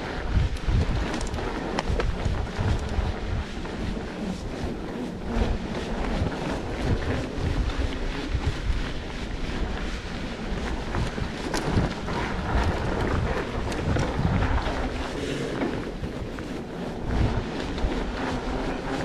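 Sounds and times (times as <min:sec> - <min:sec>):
bike knocks and rattles: 0:00.0 - 0:19.0
low rumble of tyres on dirt: 0:00.0 - 0:19.0
wind buffeting microphone: 0:00.0 - 0:19.0.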